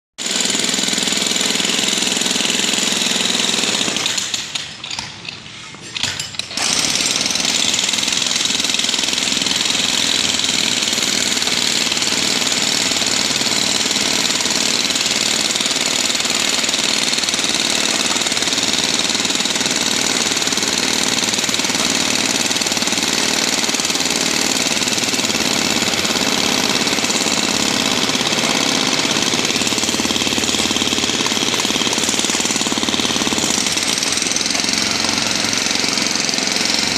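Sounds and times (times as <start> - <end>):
hammer drill clattering: 0.3 - 36.9.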